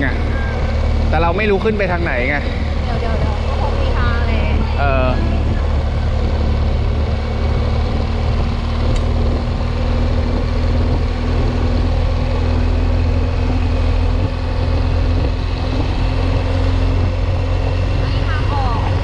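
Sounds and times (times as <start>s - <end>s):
motorcycle engine running: 0.0s - 19.0s
road and wind rumble: 0.0s - 19.0s.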